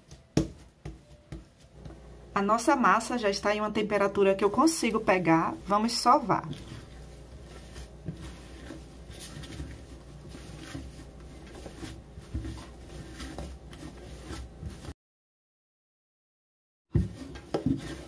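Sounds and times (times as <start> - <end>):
hands kneading dough: 0.0 - 15.0, 17.0 - 18.0.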